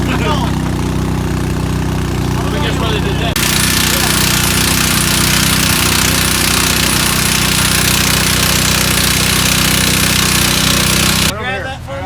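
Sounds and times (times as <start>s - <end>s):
power tool running: 0.0s - 11.3s
engine hum: 0.0s - 12.0s.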